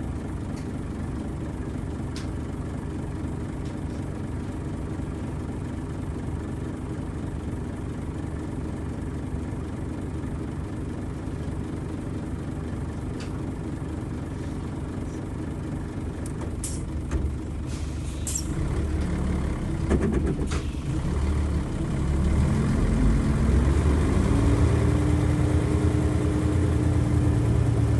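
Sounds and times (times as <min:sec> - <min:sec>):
diesel bus engine idling: 0:00.0 - 0:27.9.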